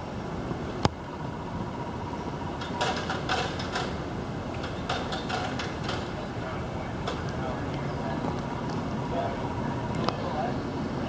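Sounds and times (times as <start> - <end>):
steady street rumble: 0.0 - 11.0.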